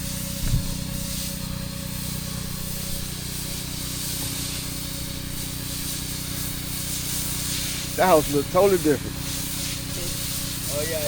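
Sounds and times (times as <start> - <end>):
engine humming: 0.0 - 11.0
pressure washer spraying water: 0.0 - 11.0.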